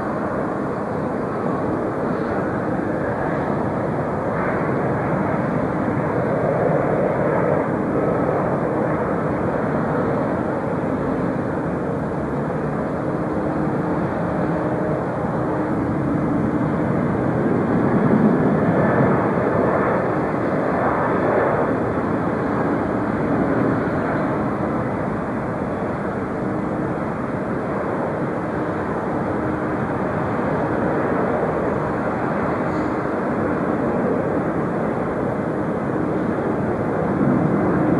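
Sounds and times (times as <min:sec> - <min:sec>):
jet airliner engine noise: 0:00.0 - 0:37.9.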